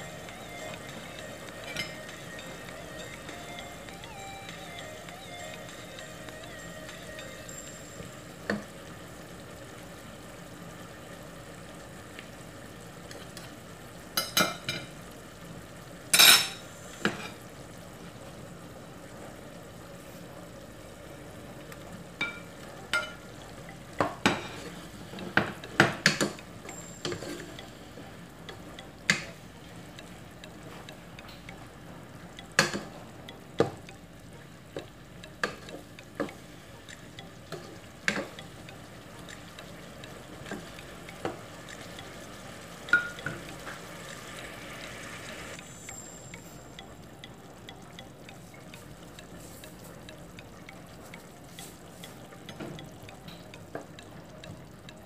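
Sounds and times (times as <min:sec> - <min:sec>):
food sizzling in a pot: 0:00.0 - 0:55.0.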